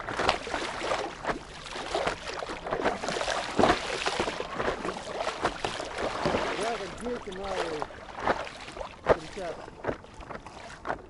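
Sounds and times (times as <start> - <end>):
paddle stroke splashes: 0.0 - 11.0
water slapping paddle board: 0.0 - 11.0.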